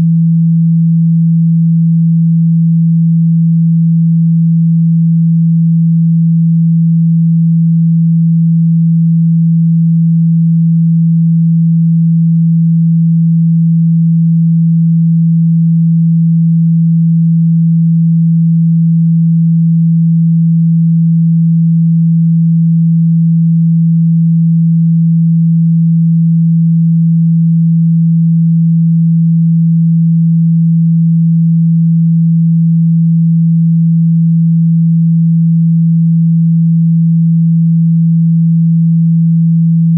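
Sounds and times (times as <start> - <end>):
steady low sine tone: 0.0 - 39.9.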